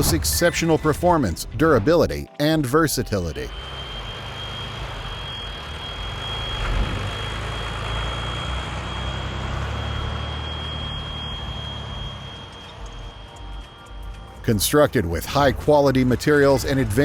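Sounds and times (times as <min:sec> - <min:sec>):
heavy machine engine rumble: 0:00.0 - 0:01.2, 0:03.3 - 0:17.0
steady high whine: 0:00.0 - 0:02.0, 0:02.7 - 0:17.0.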